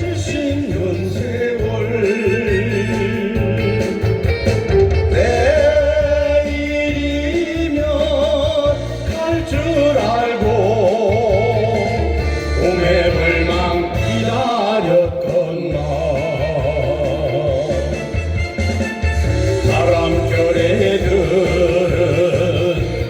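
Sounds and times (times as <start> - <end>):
pounding bass beat: 0.0 - 23.0.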